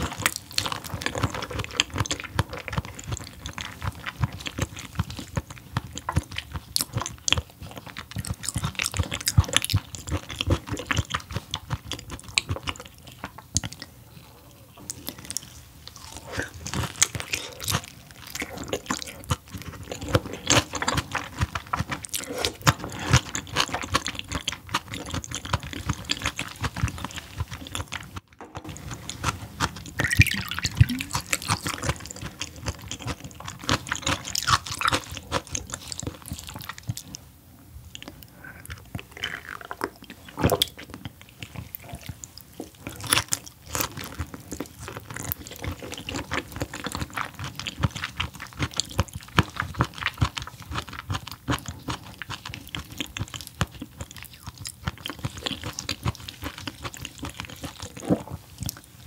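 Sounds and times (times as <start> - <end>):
chewing and crunching raw fish: 0.0 - 59.0.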